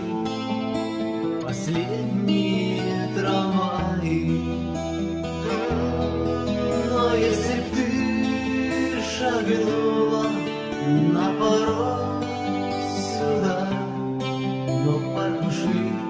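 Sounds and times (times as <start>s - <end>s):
acoustic guitar chords: 0.0s - 16.0s
person singing: 0.0s - 16.0s.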